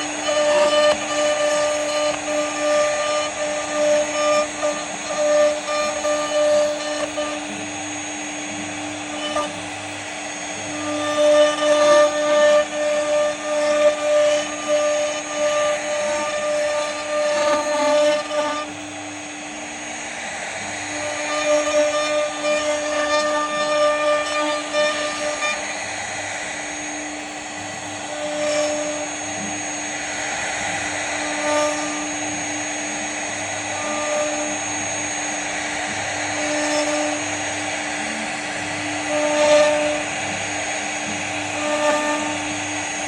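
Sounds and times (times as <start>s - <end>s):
bit cutting wood: 0.0s - 43.0s
router spindle whine: 0.0s - 43.0s.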